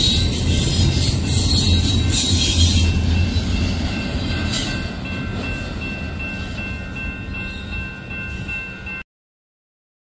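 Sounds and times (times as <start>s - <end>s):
crossing warning bell ringing: 0.0s - 9.0s
freight train wheels rumbling: 0.0s - 9.0s.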